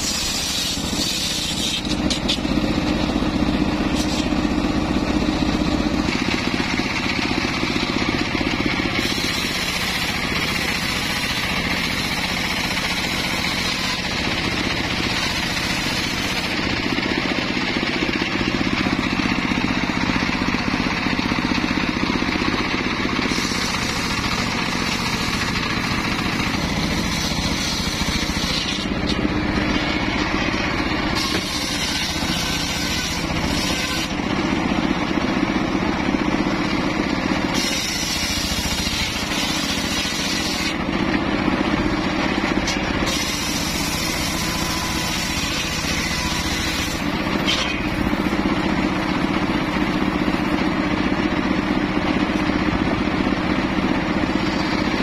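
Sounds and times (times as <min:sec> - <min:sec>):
circular sawmill blade cutting wood: 0:00.0 - 0:55.0.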